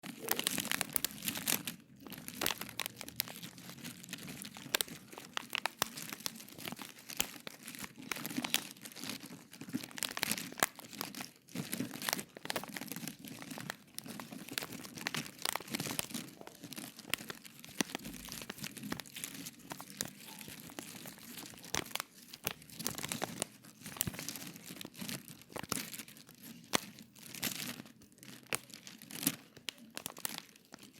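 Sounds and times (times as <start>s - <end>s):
crinkling with crackles and pops: 0.0s - 30.9s.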